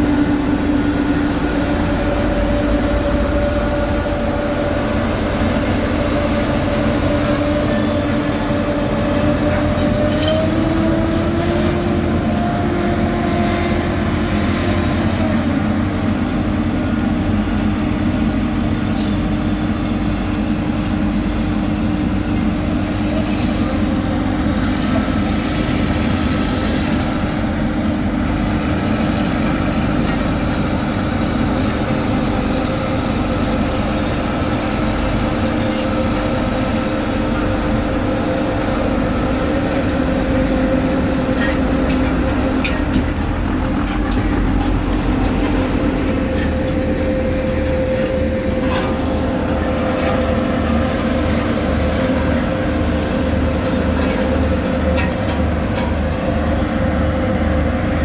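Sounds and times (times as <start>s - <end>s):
heavy diesel machinery engine: 0.0s - 58.0s.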